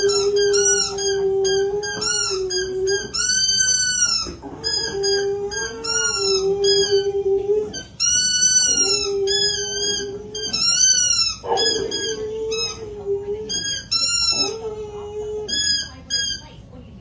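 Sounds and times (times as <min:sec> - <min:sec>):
dog howling: 0:00.0 - 0:16.4.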